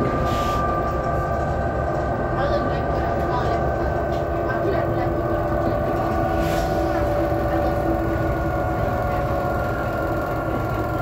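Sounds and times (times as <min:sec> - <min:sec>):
bus drivetrain whining: 0:00.0 - 0:11.0
low road rumble: 0:00.0 - 0:11.0.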